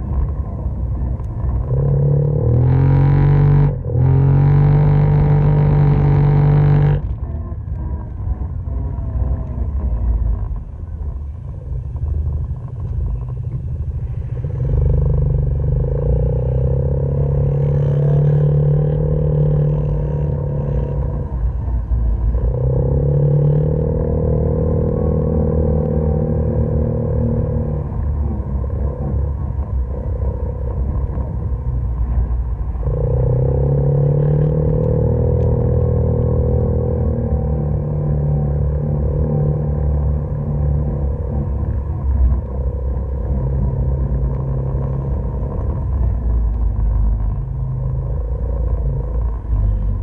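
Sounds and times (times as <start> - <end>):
low rumble: 0.0 - 50.0
off-road vehicle engine: 0.0 - 50.0.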